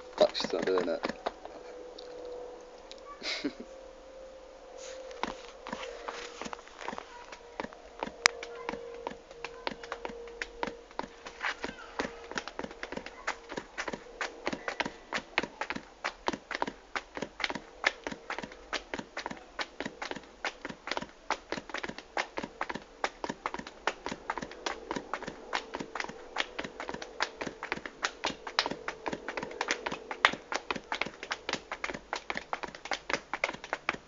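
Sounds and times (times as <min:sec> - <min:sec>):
faint steady hum: 0:00.0 - 0:34.0
cat paws tapping hard surface: 0:00.2 - 0:01.3, 0:07.6 - 0:34.0.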